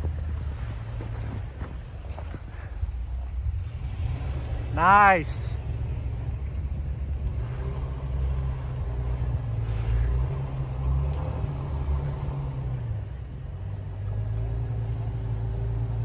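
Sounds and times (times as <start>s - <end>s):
engine rumbling in snow: 0.0s - 16.0s.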